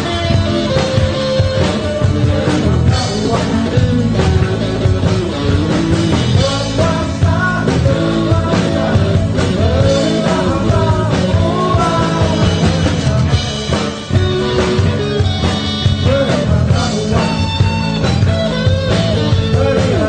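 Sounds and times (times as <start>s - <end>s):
person singing: 0.0s - 20.0s
rock band playing: 0.0s - 20.0s.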